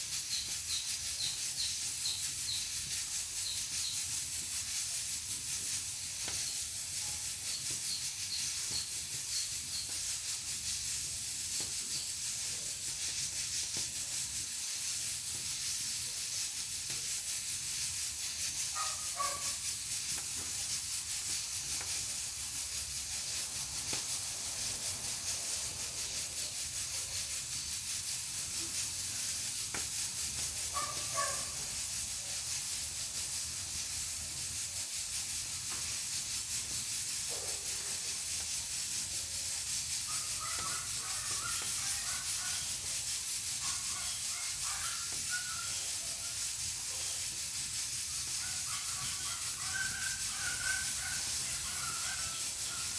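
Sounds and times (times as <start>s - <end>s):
pressure cooker hissing steam: 0.0s - 52.9s.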